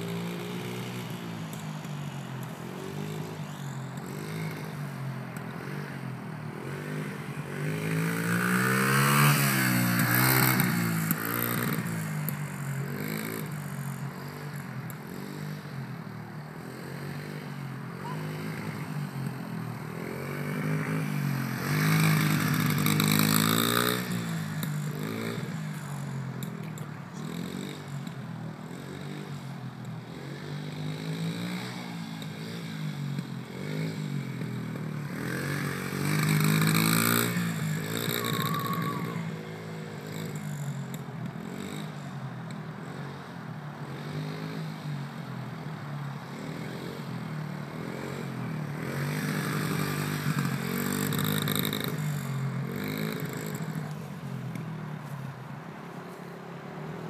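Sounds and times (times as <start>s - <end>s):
dirt bike engine revving: 0.0s - 29.4s, 30.0s - 40.8s, 46.3s - 53.9s.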